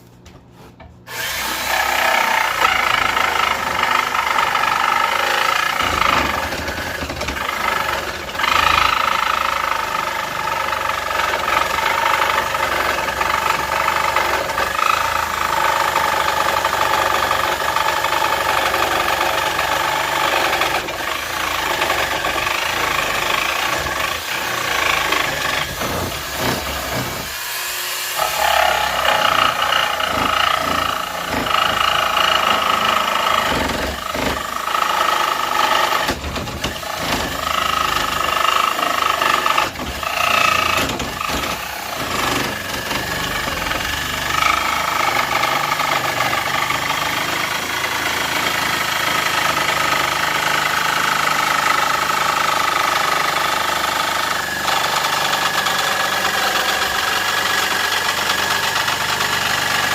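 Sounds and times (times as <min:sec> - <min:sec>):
electric jigsaw cutting wood: 0:01.1 - 0:59.9.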